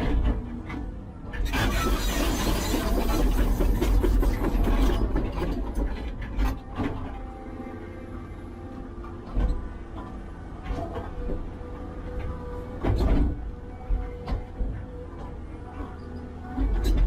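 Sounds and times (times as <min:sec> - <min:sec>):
engine running: 0:00.0 - 0:17.0
machinery grinding and scraping: 0:00.0 - 0:17.0.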